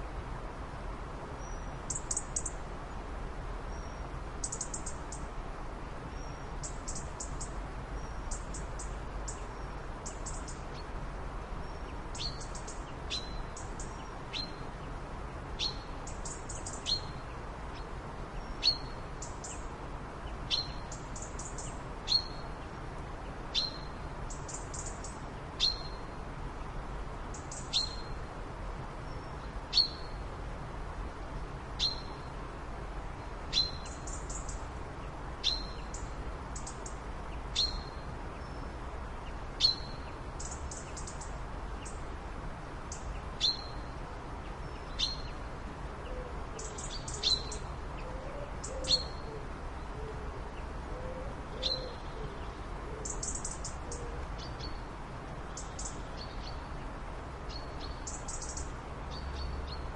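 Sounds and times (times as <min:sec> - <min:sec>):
low background noise: 0:00.0 - 0:59.9.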